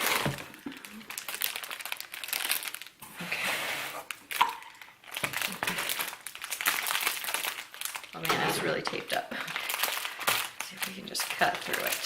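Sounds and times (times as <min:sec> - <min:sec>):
packaging crinkling and rustling: 0:00.0 - 0:03.3, 0:03.9 - 0:12.0.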